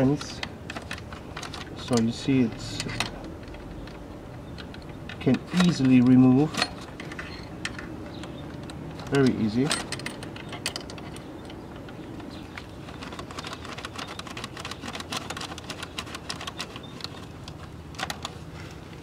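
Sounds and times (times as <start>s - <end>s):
light clicks and metal taps: 0.0s - 18.4s.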